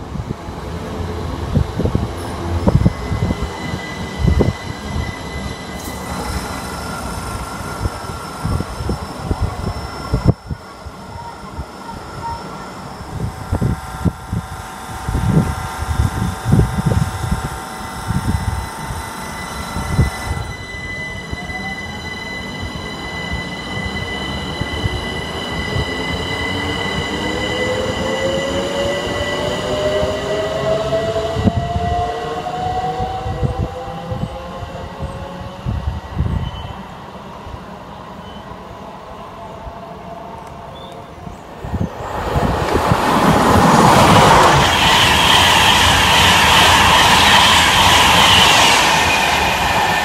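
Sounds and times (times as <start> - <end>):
train rumbling on track: 0.0 - 50.0.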